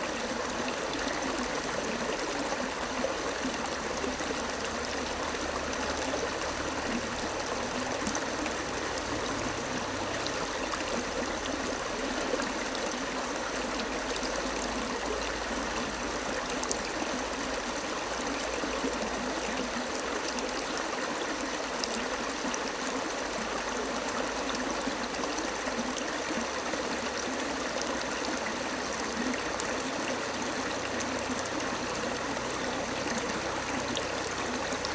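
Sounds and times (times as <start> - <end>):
stream water babbling: 0.0 - 34.9.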